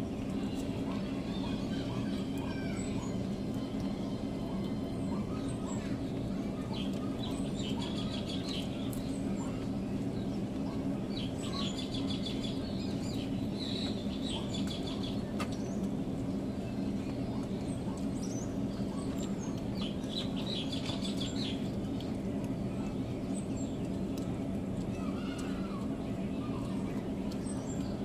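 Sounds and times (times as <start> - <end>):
birds chirping: 0.0 - 28.0
steady low hum: 0.0 - 28.0.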